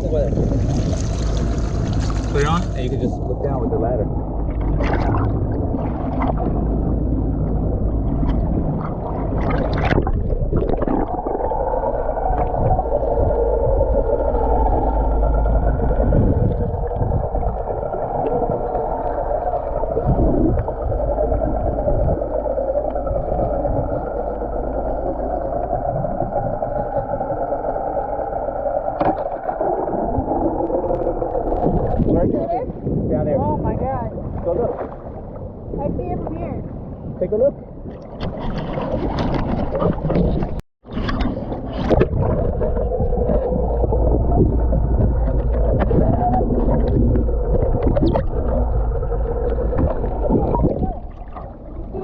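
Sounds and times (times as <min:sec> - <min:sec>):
boat engine rumbling: 0:00.0 - 0:52.0
water sounds: 0:00.0 - 0:52.0.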